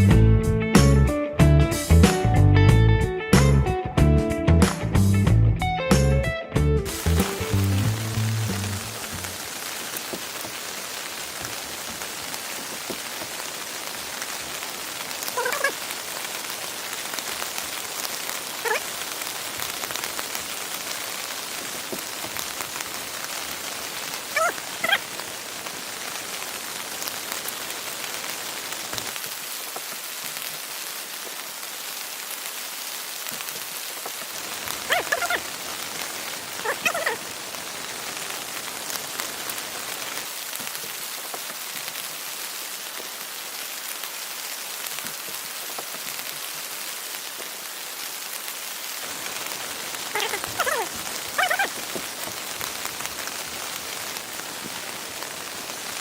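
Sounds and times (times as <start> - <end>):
heavy rain falling: 6.0 - 56.0.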